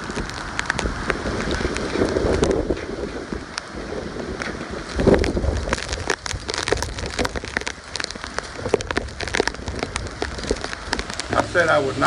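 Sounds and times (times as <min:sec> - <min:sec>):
heavy rain: 0:00.0 - 0:12.0
raindrops ticking close by: 0:00.0 - 0:12.0.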